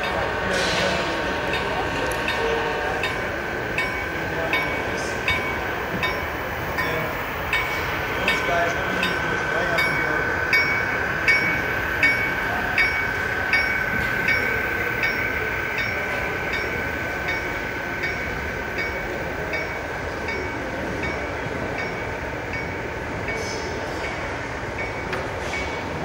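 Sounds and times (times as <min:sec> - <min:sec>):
model locomotive whine: 0:00.0 - 0:26.0.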